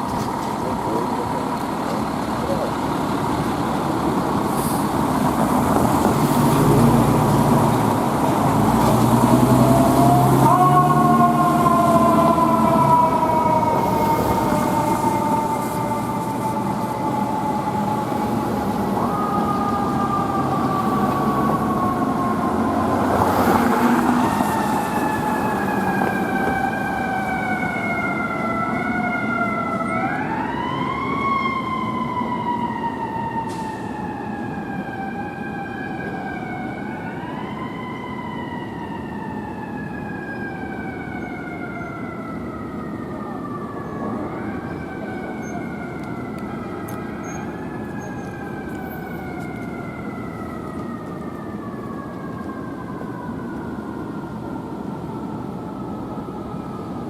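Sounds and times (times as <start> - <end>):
fire engine siren wailing: 0.0 - 57.0.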